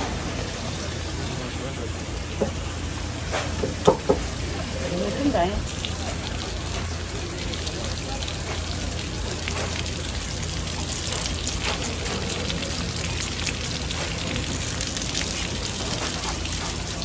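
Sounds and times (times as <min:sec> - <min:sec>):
water splashing on wooden board: 0:03.3 - 0:17.0.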